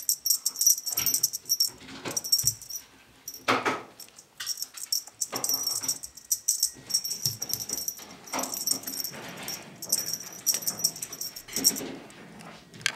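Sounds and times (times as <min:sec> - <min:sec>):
small bell jingling: 0:00.0 - 0:11.9.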